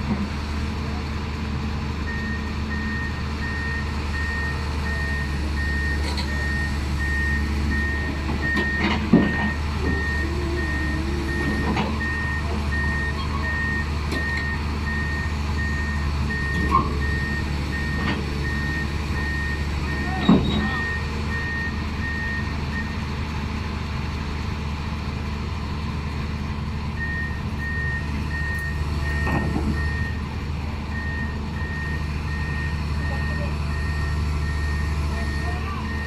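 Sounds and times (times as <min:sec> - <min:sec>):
diesel engine running: 0:00.0 - 0:36.0
reversing alarm beeping: 0:02.1 - 0:22.9, 0:27.0 - 0:30.2, 0:30.9 - 0:36.0.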